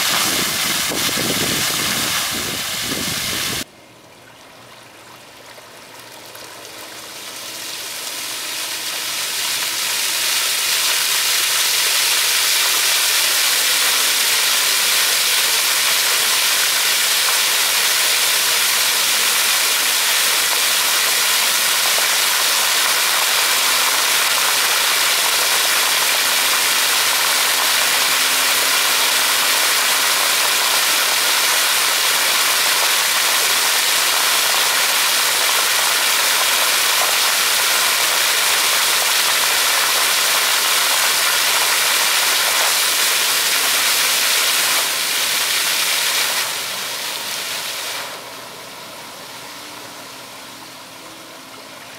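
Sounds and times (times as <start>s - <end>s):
fountain jets spraying water: 0.0s - 3.7s, 5.3s - 51.9s.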